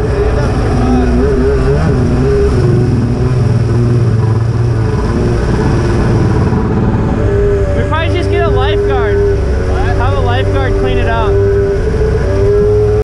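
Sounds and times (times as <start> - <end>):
jet ski engines running: 0.0 - 13.0.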